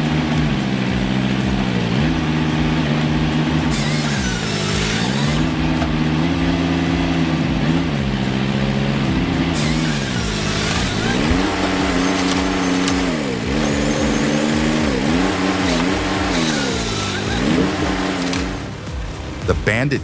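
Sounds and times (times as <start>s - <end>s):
engine running under changing load: 0.0s - 20.0s.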